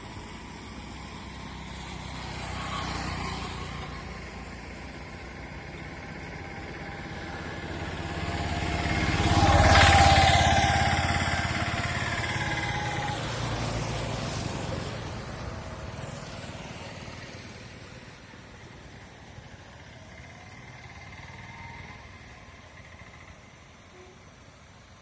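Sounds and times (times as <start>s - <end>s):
vehicle engine passing: 0.0s - 24.9s.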